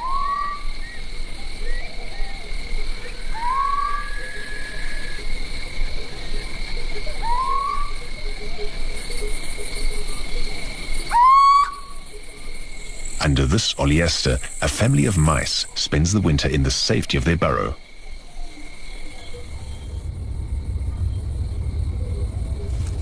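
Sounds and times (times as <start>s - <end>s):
high insect trill: 0.0s - 23.0s.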